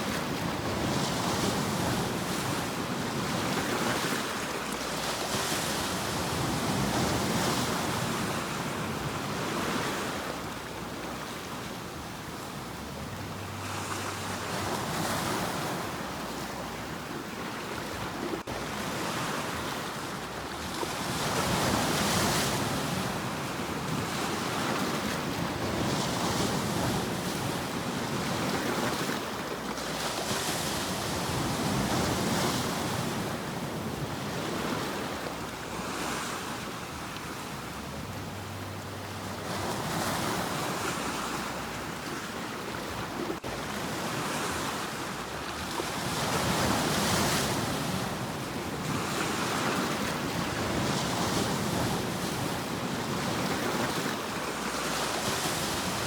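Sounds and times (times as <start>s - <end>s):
sea waves breaking: 0.0s - 56.0s
wind: 0.0s - 56.0s.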